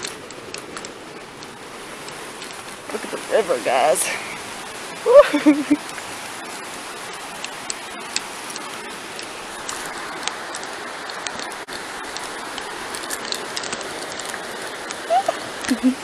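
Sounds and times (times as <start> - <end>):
fast-flowing river rushing: 2.8 - 16.0.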